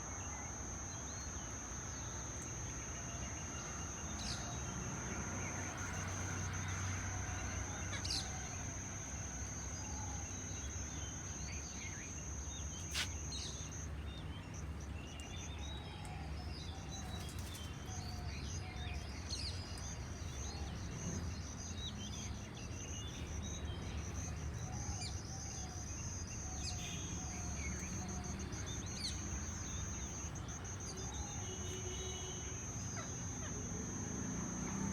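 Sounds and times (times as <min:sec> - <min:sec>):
steady high-pitched whine: 0:00.0 - 0:34.9.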